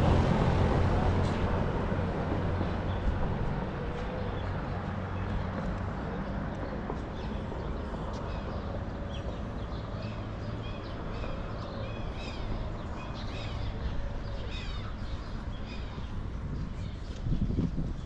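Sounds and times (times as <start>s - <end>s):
low street rumble: 0.0s - 18.0s
birds chirping: 2.6s - 18.0s.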